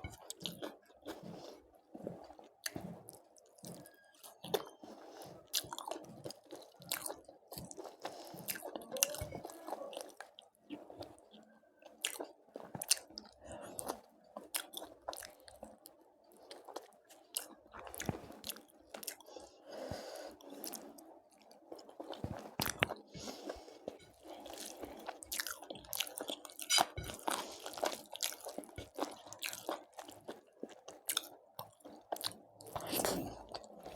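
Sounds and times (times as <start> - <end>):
wet chewing: 0.0 - 33.9.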